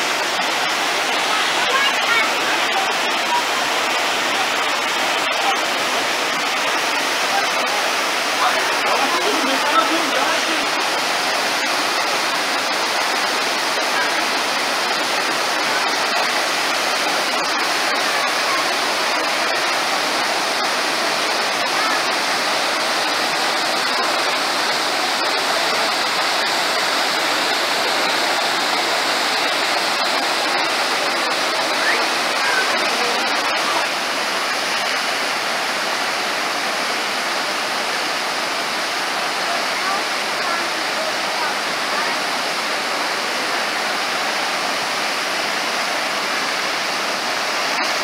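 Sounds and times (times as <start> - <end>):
rapids churning: 0.0 - 48.0
waterfall rushing: 0.0 - 48.0.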